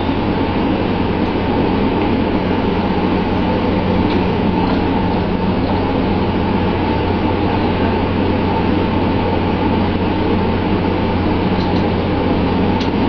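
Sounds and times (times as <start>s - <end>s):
boat engine droning: 0.0s - 13.0s
sea rushing along hull: 0.0s - 13.0s.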